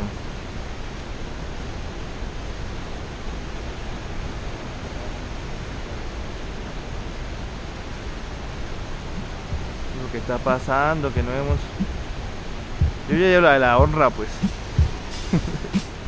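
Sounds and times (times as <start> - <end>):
river rushing over rapids: 0.1 - 16.0.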